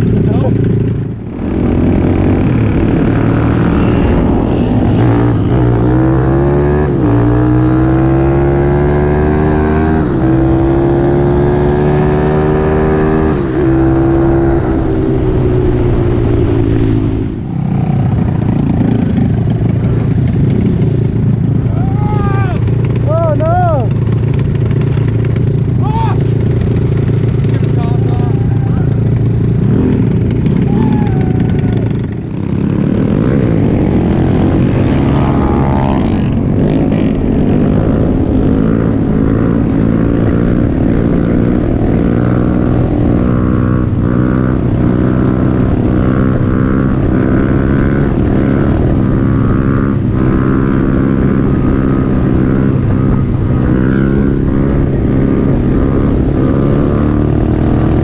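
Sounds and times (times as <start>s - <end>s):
mini bike engine revving high: 0.0s - 16.3s, 16.9s - 58.0s
wind noise on microphone: 1.1s - 22.6s, 28.3s - 58.0s.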